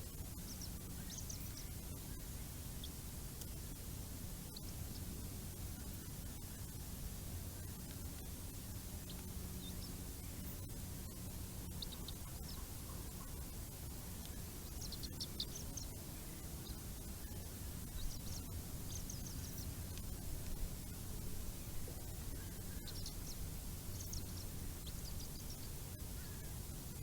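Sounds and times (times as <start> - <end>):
microphone hiss and hum: 0.0 - 27.0
birds chirping: 0.2 - 3.6, 4.4 - 27.0.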